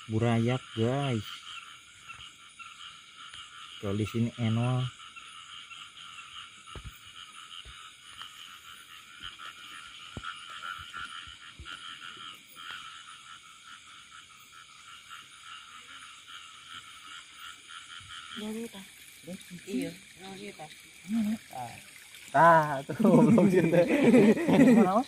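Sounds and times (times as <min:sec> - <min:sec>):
chorus of frogs calling: 0:00.0 - 0:25.0.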